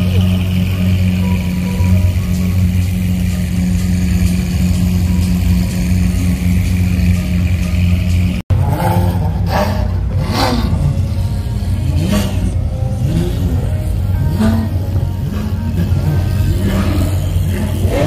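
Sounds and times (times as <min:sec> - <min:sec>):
car engine droning: 0:00.0 - 0:18.0
car engine revving: 0:00.0 - 0:18.0.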